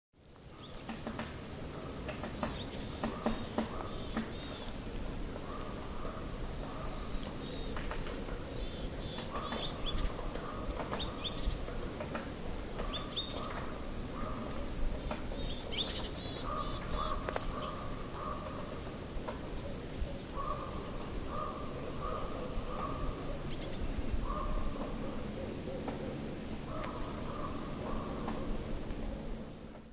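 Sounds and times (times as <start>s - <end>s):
low repeated bird calls: 0.5s - 29.7s.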